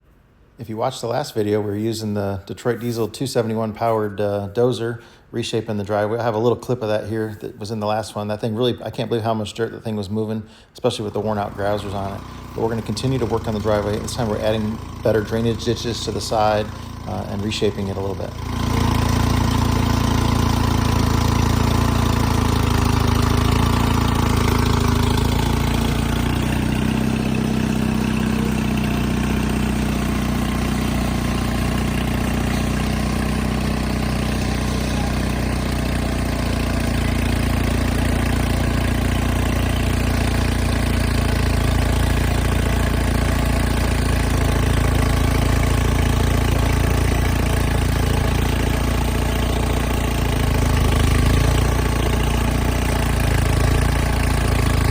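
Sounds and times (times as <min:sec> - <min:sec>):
diesel engine under load: 0:10.2 - 0:54.9.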